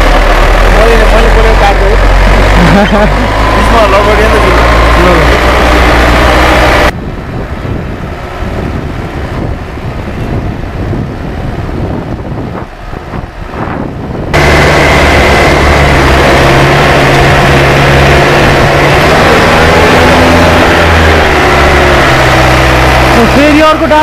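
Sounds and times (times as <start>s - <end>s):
road rumble: 0.0s - 24.0s
truck engine drone: 0.0s - 24.0s.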